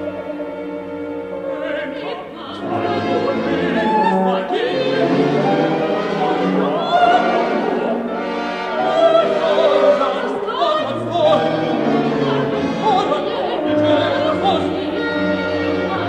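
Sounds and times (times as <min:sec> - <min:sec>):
operatic singing with vibrato: 0:00.0 - 0:16.0
orchestral music: 0:00.0 - 0:16.0.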